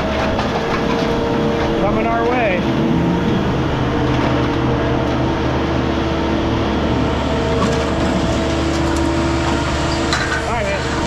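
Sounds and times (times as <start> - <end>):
machine droning: 0.0 - 11.0.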